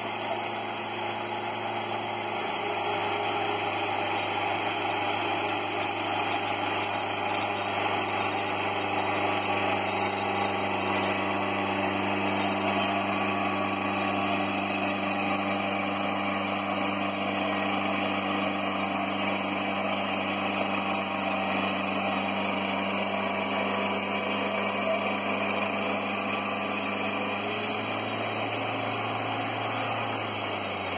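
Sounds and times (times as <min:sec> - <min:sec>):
band blade sawing through log: 0:00.0 - 0:30.9
sawmill engine under load: 0:00.0 - 0:30.9.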